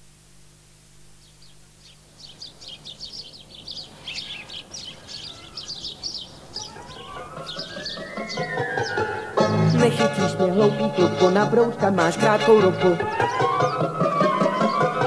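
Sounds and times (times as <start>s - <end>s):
faint steady hum: 0.0s - 15.0s
birds chirping: 1.0s - 15.0s.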